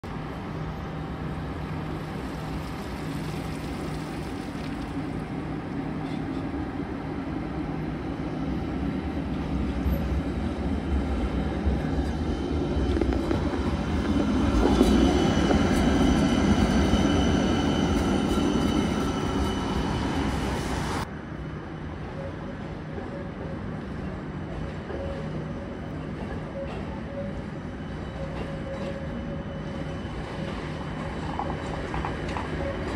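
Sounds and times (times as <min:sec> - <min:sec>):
tram passing on rails: 0:00.0 - 0:32.9.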